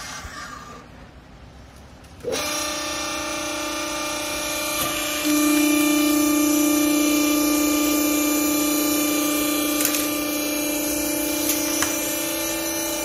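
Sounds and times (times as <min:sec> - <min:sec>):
motor and hydraulic pump hum: 0:00.0 - 0:13.0.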